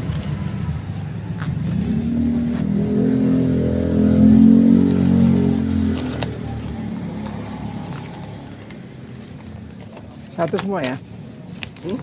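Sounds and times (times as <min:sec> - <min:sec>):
vehicle engine passing: 0:00.0 - 0:10.2.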